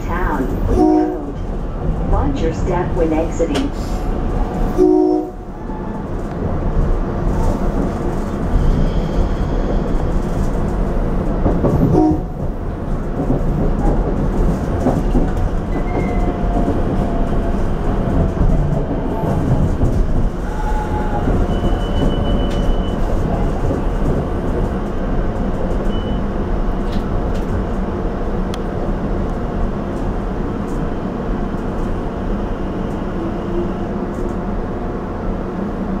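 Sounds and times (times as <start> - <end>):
railcar wheels rumbling: 0.0 - 36.0.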